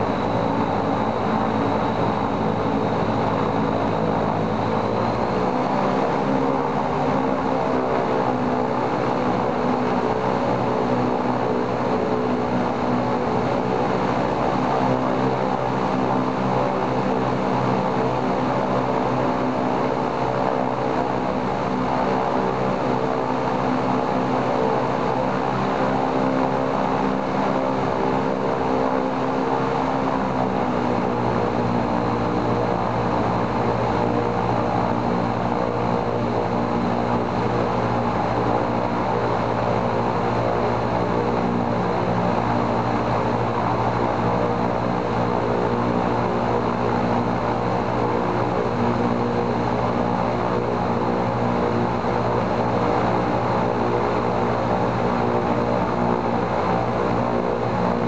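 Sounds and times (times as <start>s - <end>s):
radial aircraft engine running: 0.0s - 58.0s.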